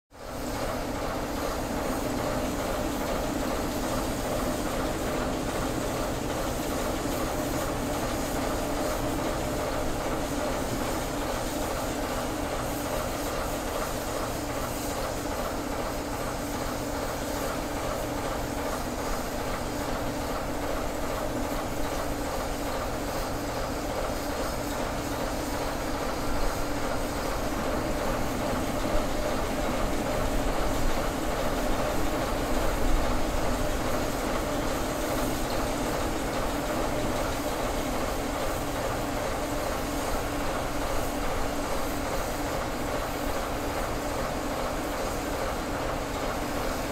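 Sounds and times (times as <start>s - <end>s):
diesel locomotive engine drone: 0.2s - 46.8s.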